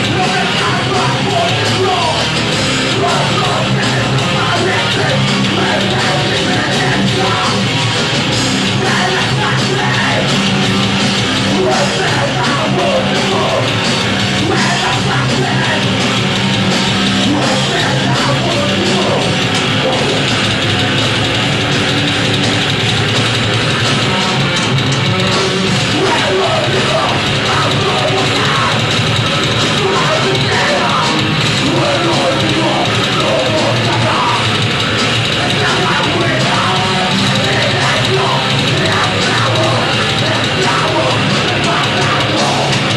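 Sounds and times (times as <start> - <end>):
heavy distorted rock music: 0.0 - 42.9.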